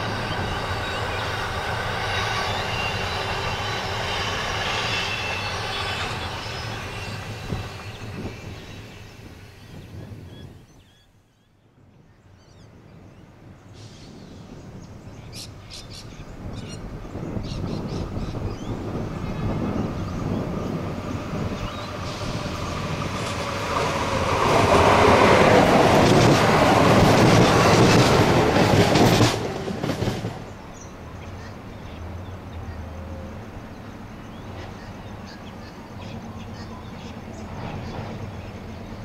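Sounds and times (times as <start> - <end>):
diesel railcar passing: 0.0 - 11.0, 12.8 - 39.0.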